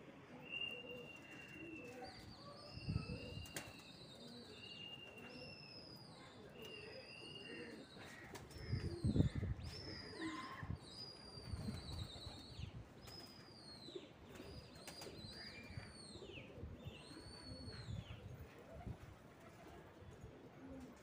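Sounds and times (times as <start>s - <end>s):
birds whistling calls: 0.4s - 8.1s, 8.8s - 18.0s.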